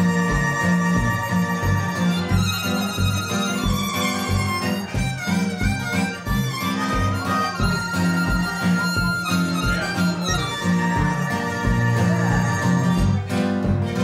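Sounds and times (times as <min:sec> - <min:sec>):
blues harmonica: 0:00.0 - 0:14.0
guitar accompaniment: 0:00.0 - 0:14.0.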